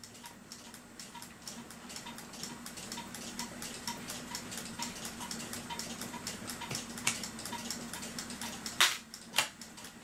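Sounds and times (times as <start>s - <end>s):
mechanical clock ticking: 0.0s - 10.0s.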